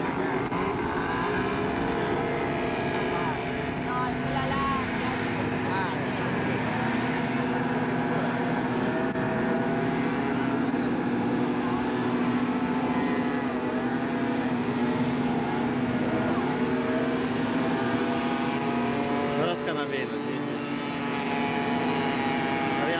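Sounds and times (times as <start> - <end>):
hovercraft engine droning: 0.0 - 22.9.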